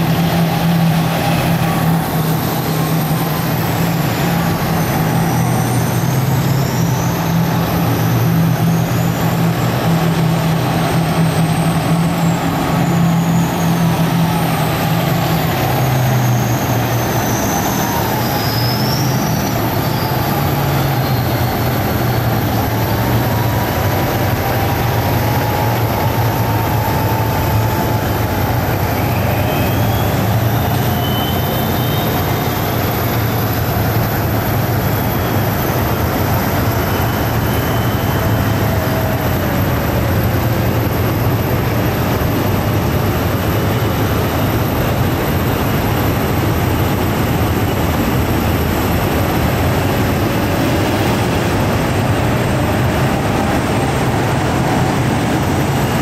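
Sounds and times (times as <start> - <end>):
heavy engines humming: 0.0 - 56.0.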